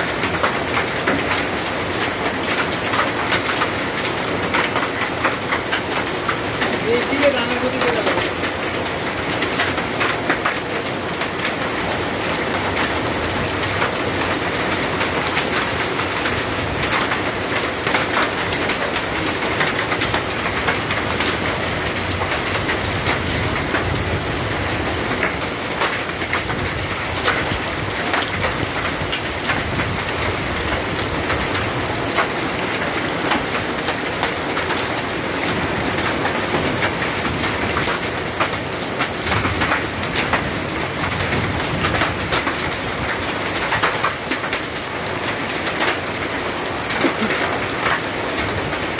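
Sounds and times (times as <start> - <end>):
heavy rain on pavement: 0.0 - 48.9
raindrops splashing: 0.1 - 48.9.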